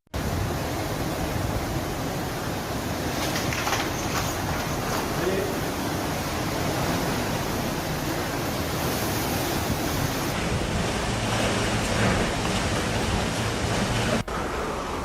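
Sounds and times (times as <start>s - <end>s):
wind roaring: 0.1s - 15.0s
heavy rain: 0.2s - 15.0s.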